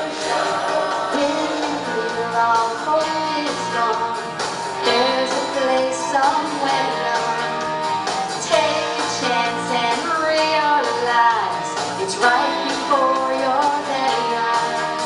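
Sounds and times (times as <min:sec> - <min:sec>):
woman singing into microphone: 0:00.0 - 0:07.7, 0:08.4 - 0:15.0
musical accompaniment: 0:00.0 - 0:15.0.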